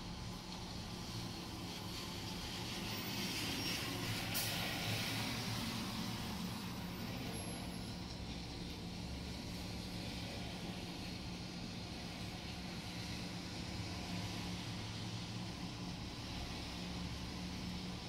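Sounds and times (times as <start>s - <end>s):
hiss from wet road: 0.0s - 18.0s.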